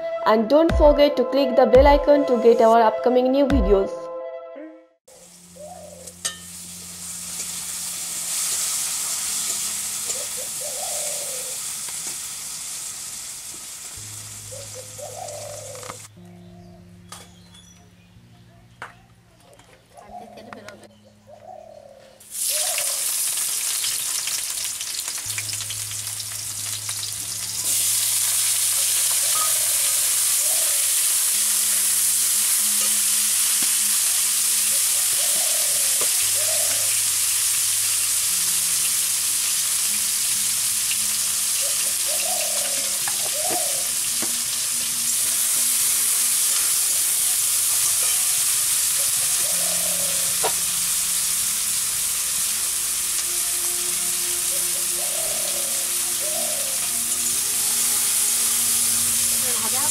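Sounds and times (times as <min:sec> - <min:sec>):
vegetables sizzling in oil: 0:05.1 - 0:16.1, 0:22.3 - 0:59.9.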